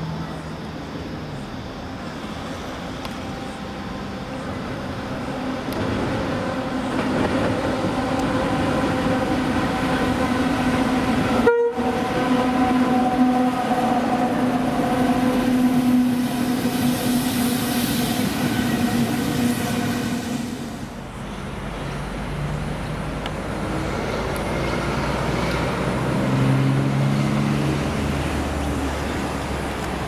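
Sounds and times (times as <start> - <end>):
diesel locomotive engines humming: 0.0 - 30.0.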